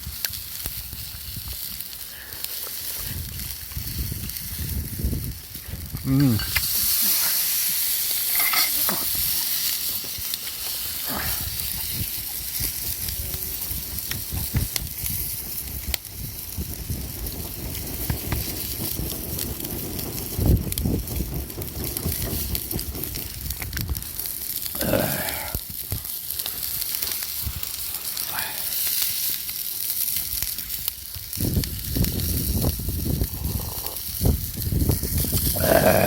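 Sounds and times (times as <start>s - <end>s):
meat sizzling over campfire: 0.0s - 36.0s
small crackles: 0.0s - 36.0s.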